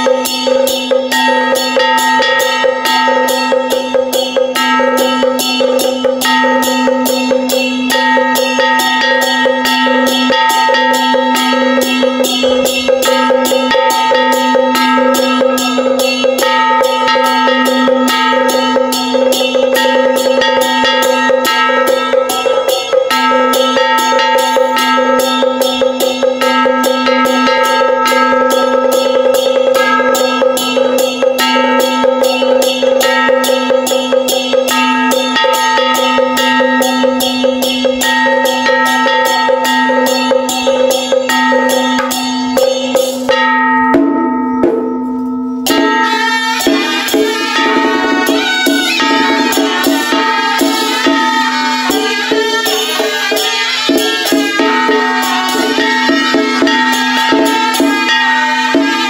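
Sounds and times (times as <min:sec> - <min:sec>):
held melodic notes: 0:00.0 - 0:59.0
quick percussion beat: 0:00.0 - 0:59.0.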